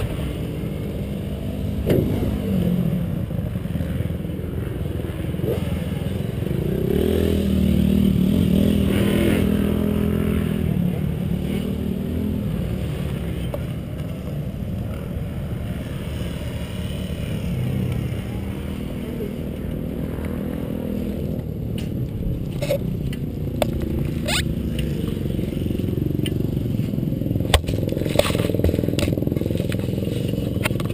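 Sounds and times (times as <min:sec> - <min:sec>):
motorcycle engines rumbling: 0:00.0 - 0:30.9.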